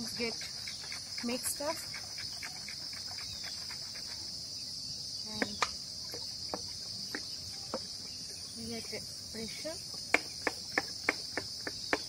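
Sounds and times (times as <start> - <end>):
insects shrilling: 0.0 - 12.0.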